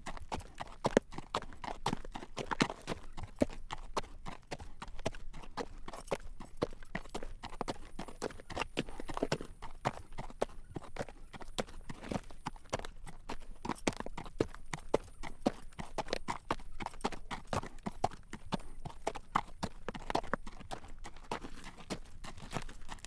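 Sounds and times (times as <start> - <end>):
horse hooves clip-clopping on road: 0.0 - 23.0.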